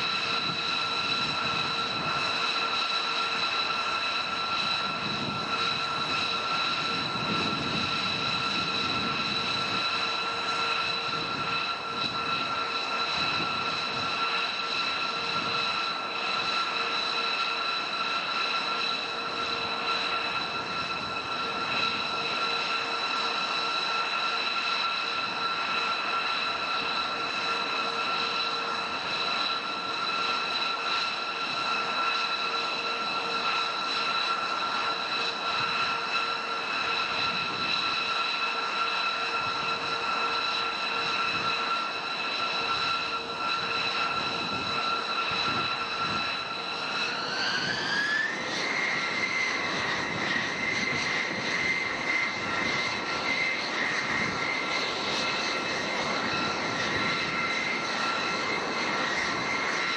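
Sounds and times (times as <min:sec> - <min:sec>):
jet engine running: 0:00.0 - 0:59.9.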